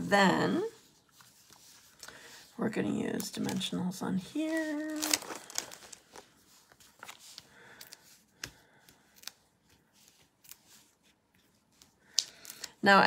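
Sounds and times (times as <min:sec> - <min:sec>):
paper rustling: 0:00.6 - 0:12.8.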